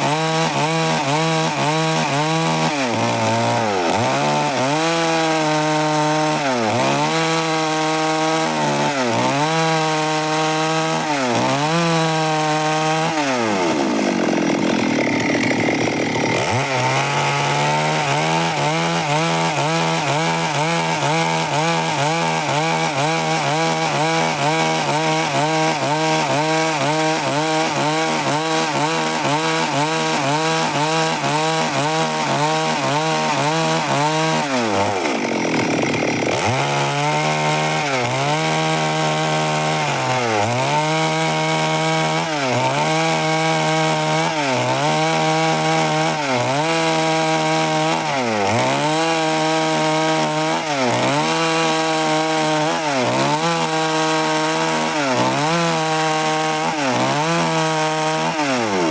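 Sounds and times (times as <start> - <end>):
chainsaw cutting timber: 0.0 - 58.9.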